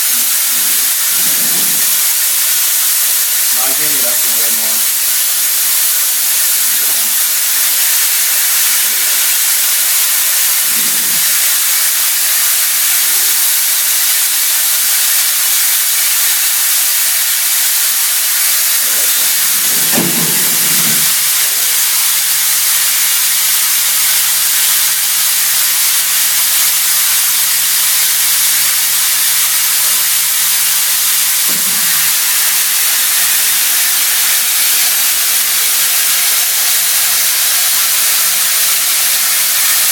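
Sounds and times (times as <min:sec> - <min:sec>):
coolant spray and cutting hiss: 0:00.0 - 0:39.9.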